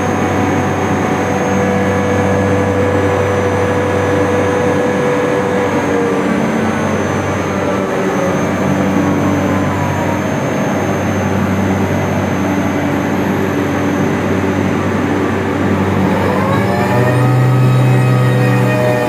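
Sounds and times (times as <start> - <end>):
chiller machinery drone: 0.0 - 19.0
faint falling whine: 0.0 - 19.0.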